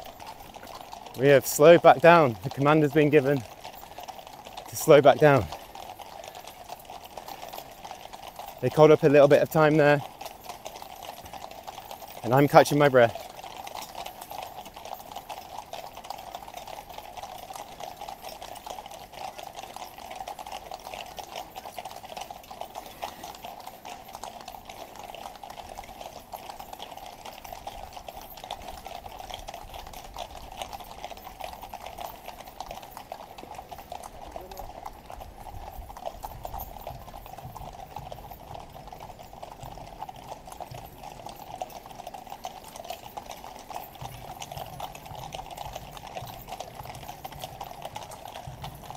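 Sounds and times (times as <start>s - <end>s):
horse hooves clip-clopping on road: 0.0s - 48.9s.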